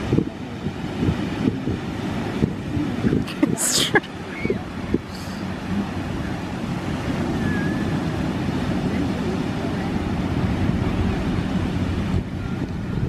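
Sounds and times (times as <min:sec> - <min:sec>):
small waves breaking: 0:00.0 - 0:13.0
wind buffeting microphone: 0:00.0 - 0:13.0.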